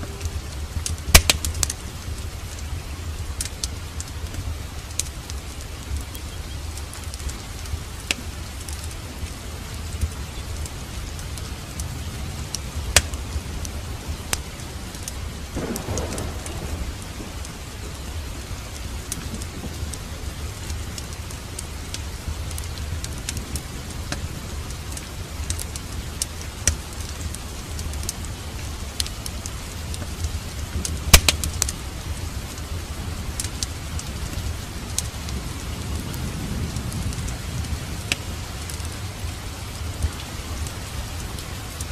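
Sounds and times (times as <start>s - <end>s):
rain hiss: 0.0s - 41.9s
wood fire crackling: 0.0s - 41.9s.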